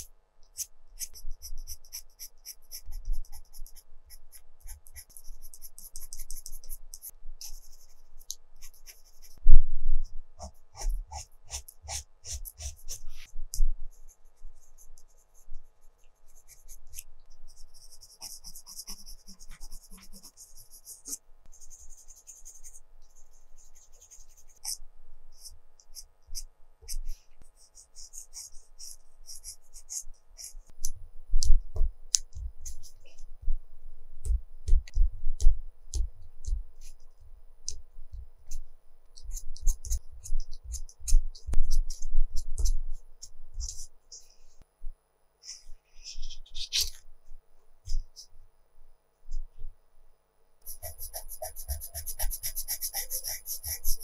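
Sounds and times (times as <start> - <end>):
colored pencil scratching on paper: 0.0 - 9.4, 10.4 - 31.0, 32.4 - 33.4, 35.9 - 44.4, 45.5 - 47.0, 50.6 - 54.0.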